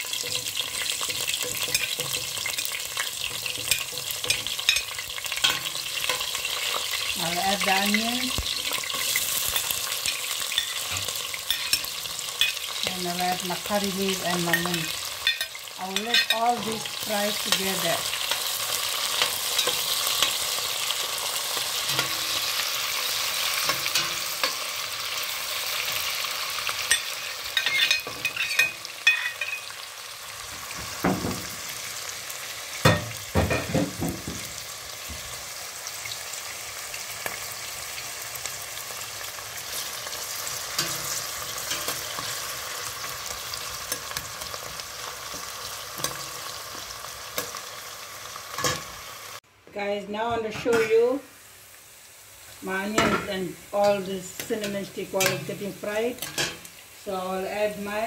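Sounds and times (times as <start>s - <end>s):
vegetables sizzling in hot oil: 0.0s - 49.4s, 50.2s - 58.0s.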